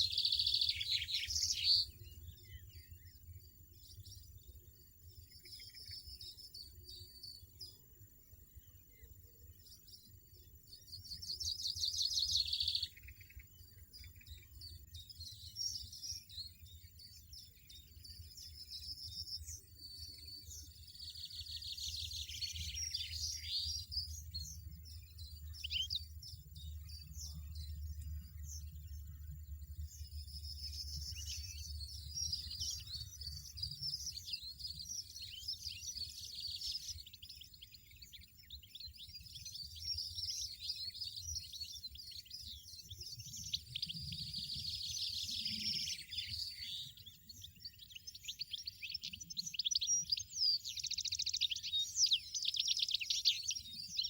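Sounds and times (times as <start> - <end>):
finch twittering song: 0.0 - 54.0.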